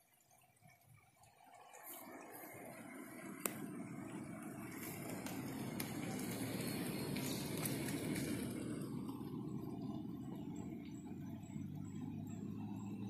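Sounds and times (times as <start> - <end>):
car driving past: 2.1 - 13.0.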